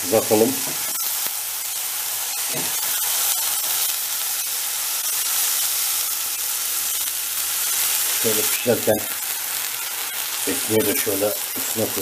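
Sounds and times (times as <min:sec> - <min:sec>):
burger patty sizzling in a pan: 0:00.0 - 0:12.0
small crackles and pops: 0:00.6 - 0:12.0.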